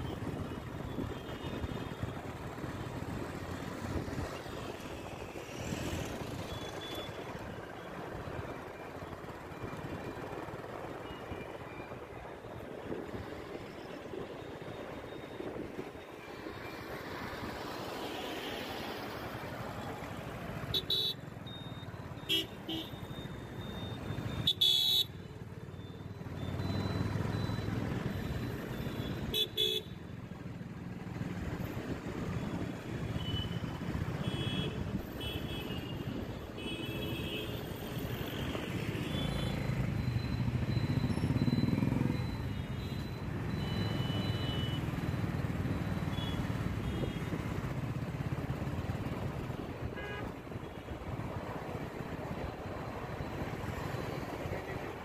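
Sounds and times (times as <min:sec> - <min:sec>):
traffic rumble: 0:00.0 - 0:55.0.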